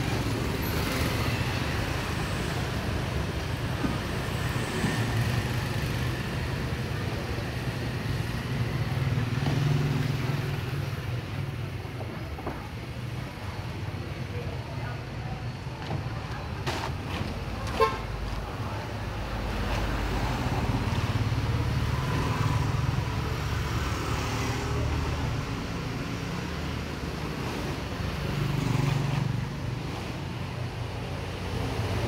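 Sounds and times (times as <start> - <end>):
street traffic passing: 0.0 - 32.0.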